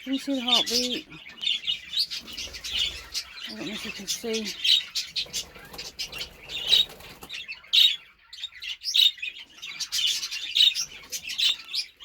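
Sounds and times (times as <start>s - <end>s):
budgerigars chirping: 0.0s - 12.0s.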